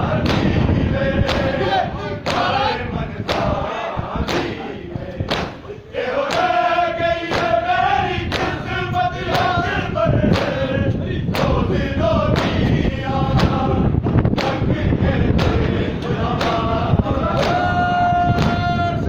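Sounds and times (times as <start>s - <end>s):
group chanting in unison: 0.0s - 19.0s.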